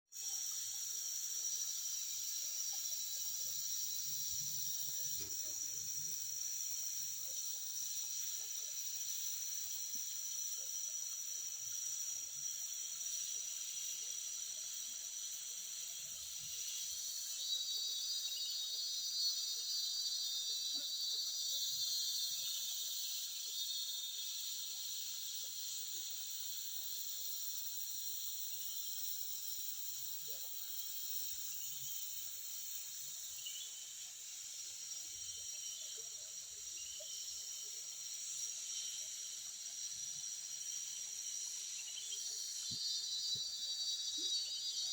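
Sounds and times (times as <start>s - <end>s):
high-pitched insect chorus: 0.1s - 44.9s
rapidly pulsing insect call: 0.1s - 44.9s.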